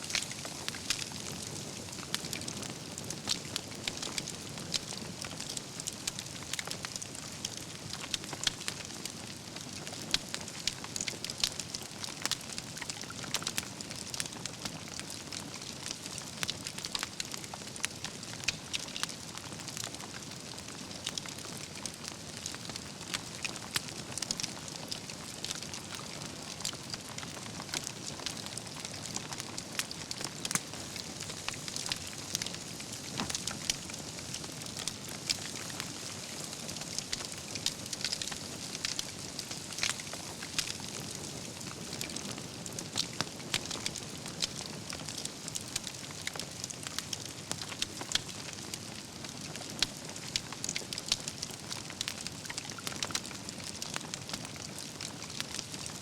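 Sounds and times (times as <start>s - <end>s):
burning logs crackling and popping: 0.0s - 56.0s
campfire flames rushing: 0.0s - 56.0s.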